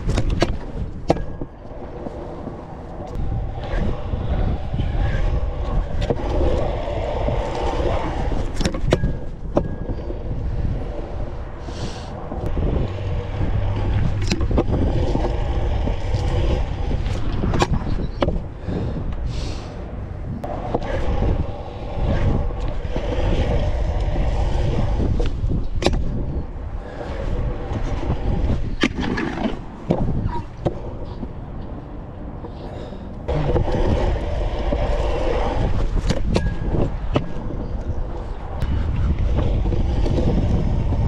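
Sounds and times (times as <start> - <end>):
scooter wheels rolling on concrete: 0.0 - 19.7, 20.4 - 41.0.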